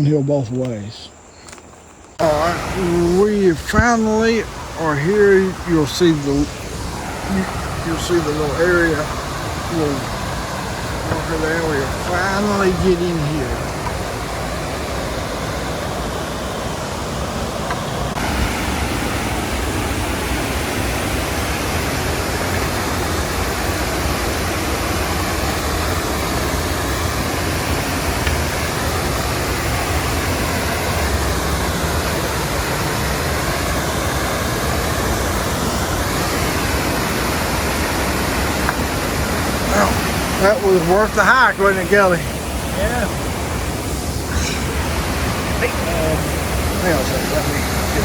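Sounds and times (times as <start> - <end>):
waterfall rushing: 2.2 - 48.0.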